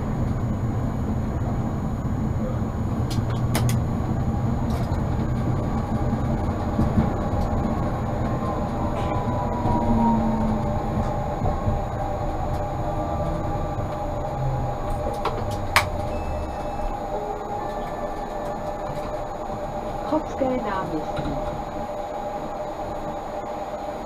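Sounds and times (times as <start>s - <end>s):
faint whine: 0.0s - 24.0s
tram rumbling along track: 0.0s - 24.0s.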